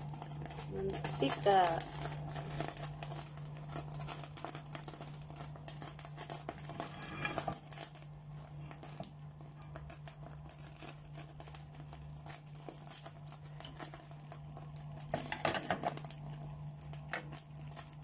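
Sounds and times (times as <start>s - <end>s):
oil sizzling in a frying pan: 0.0s - 18.0s
steady low hum: 0.0s - 18.0s.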